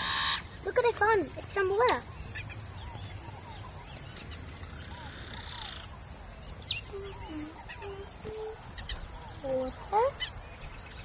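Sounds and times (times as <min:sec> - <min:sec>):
birds chirping and calling: 0:00.0 - 0:11.0
steady high-pitched hiss: 0:00.0 - 0:11.0.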